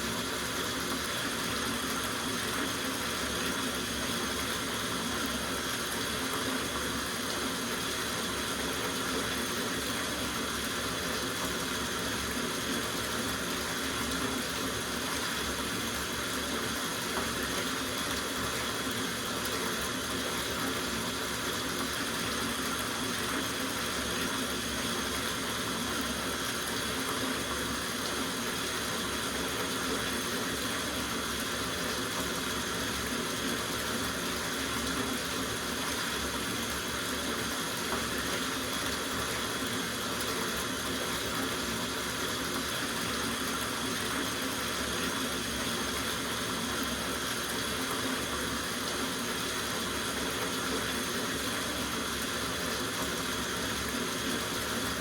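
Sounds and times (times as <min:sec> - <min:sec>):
tap water running into bathtub: 0:00.0 - 0:55.0.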